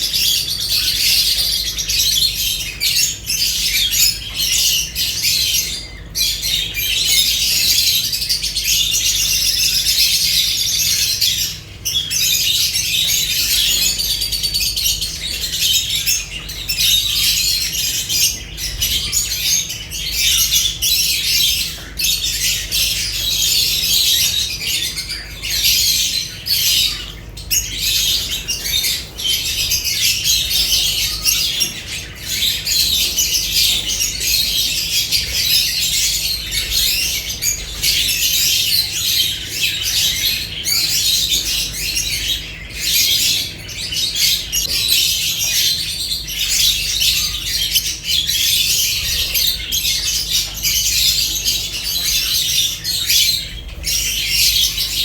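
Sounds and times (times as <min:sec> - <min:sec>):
lovebirds chattering and squawking: 0:00.0 - 0:55.0.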